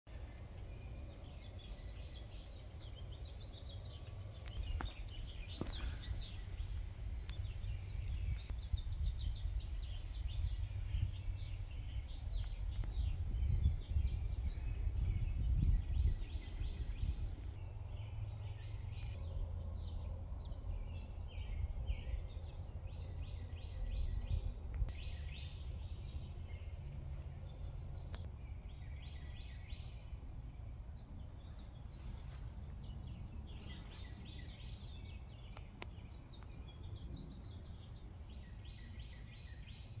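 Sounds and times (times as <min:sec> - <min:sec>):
steady low rumble: 0:00.1 - 0:40.0.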